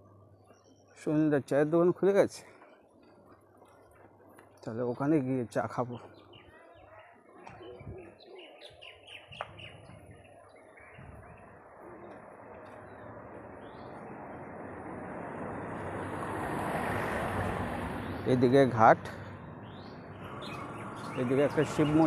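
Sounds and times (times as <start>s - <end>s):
small birds chirping: 0.1s - 14.8s, 18.0s - 22.0s.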